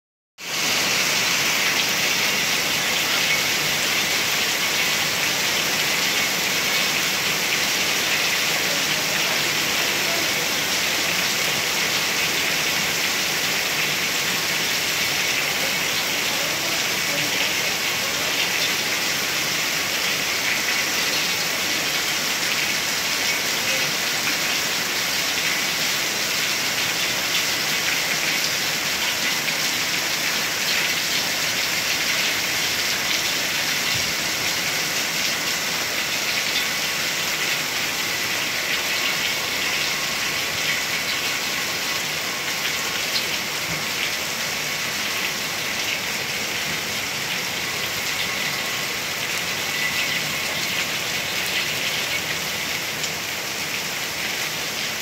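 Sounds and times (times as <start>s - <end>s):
heavy rain on hard surfaces: 0.4s - 55.0s.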